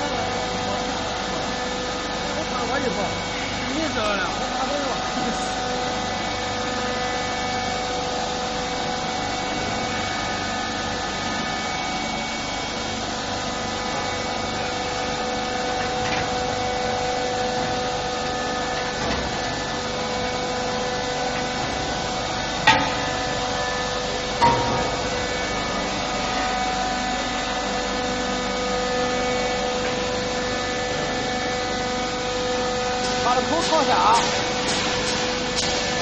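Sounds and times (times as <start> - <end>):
roll-forming machine grating hum: 0.0 - 36.0.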